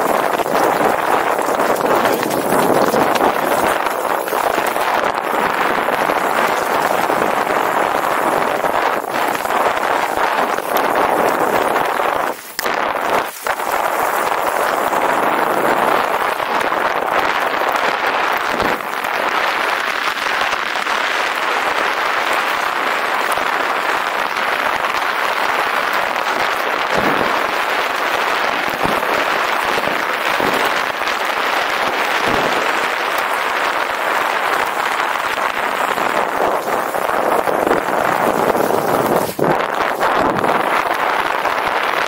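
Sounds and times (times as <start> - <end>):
bicycle rattling on rough track: 0.0 - 42.0
wind on microphone: 0.0 - 42.0.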